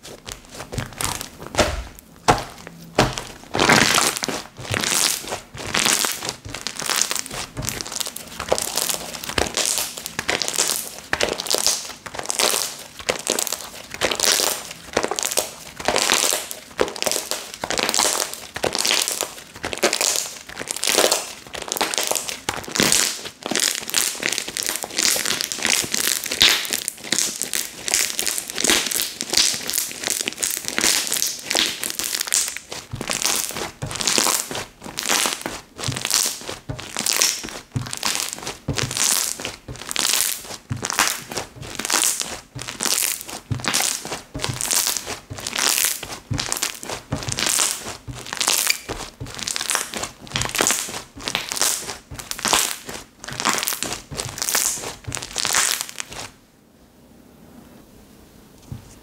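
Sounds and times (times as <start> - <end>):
slime kneaded by hand crackling: 0.0 - 56.4.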